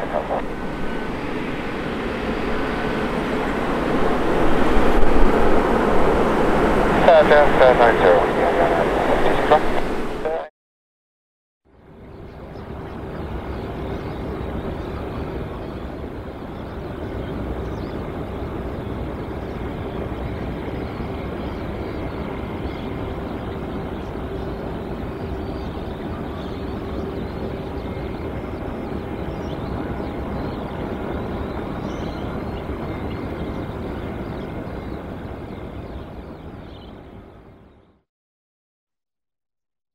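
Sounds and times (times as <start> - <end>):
airliner engines running: 0.0 - 10.5, 11.7 - 37.8.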